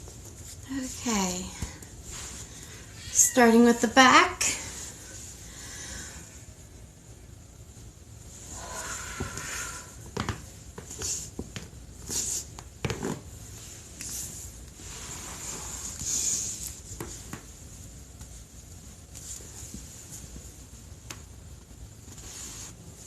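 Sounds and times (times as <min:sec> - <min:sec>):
clothing rustling: 0:00.0 - 0:03.3, 0:07.6 - 0:23.0.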